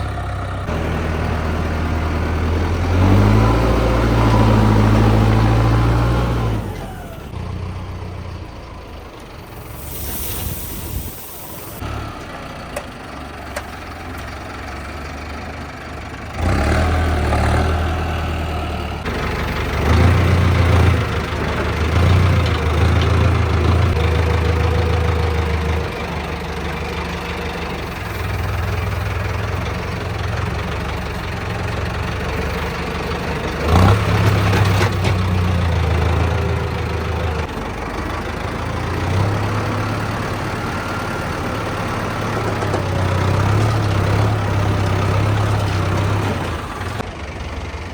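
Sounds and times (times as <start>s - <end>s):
tractor engine under load: 0.0s - 47.9s.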